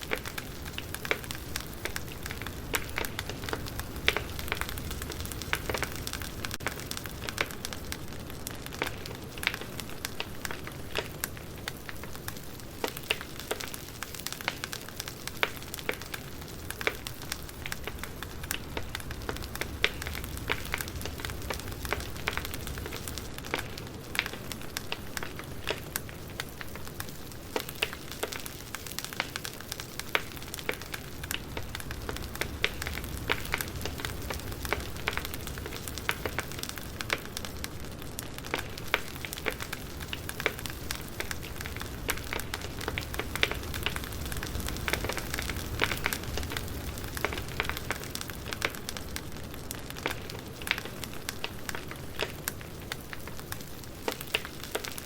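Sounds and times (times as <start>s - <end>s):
low fire rumble and hiss: 0.0s - 55.0s
wood fire crackling and popping: 0.0s - 55.0s.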